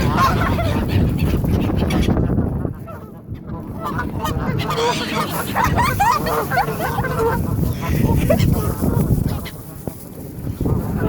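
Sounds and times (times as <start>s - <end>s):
waterfowl honking: 0.0s - 11.0s.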